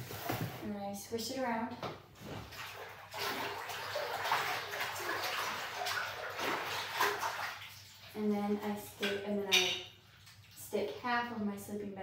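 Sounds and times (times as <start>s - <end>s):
water sloshing in bathtub: 1.8s - 11.7s.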